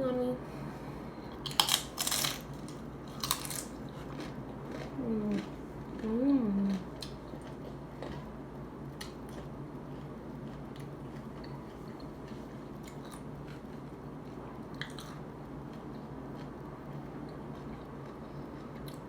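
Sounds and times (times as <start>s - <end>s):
steady low hum: 0.0s - 19.0s
crunchy chewing: 1.3s - 19.0s.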